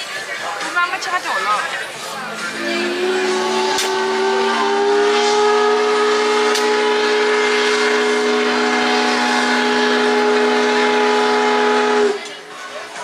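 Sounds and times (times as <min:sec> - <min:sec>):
steam whistle blowing: 0:02.0 - 0:12.5.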